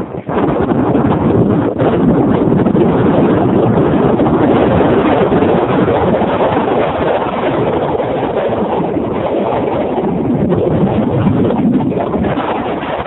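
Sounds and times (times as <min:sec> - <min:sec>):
water washing past hull: 0:00.0 - 0:13.0
wind buffeting microphone: 0:00.0 - 0:13.0.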